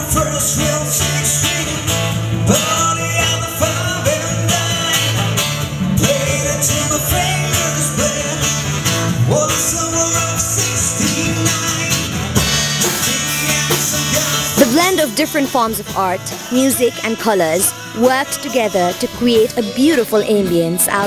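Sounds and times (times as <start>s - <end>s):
drum kit: 0.0s - 21.0s
electric bass: 0.0s - 21.0s
guitar: 0.0s - 21.0s
keyboard: 0.0s - 21.0s
person singing: 0.0s - 21.0s.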